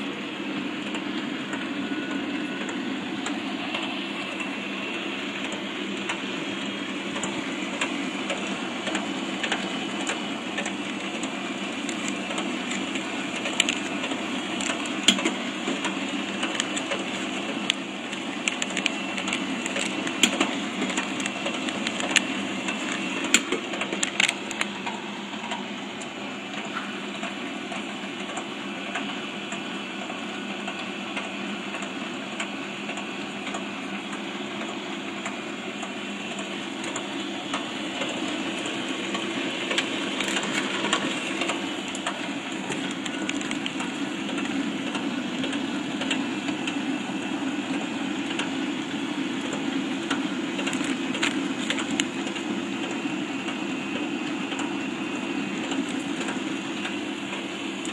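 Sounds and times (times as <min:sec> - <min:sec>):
band sealer running: 0:00.0 - 0:57.9.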